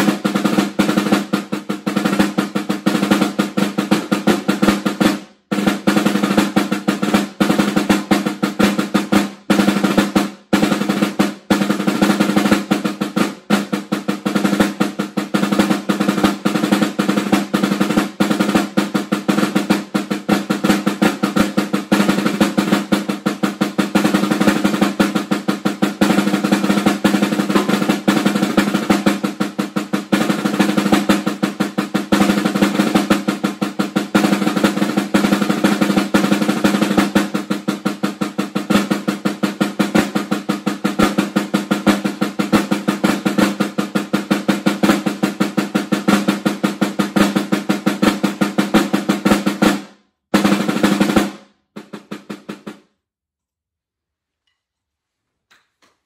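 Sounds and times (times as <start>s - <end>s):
snare drum rolls with sticks: 0.0s - 52.9s.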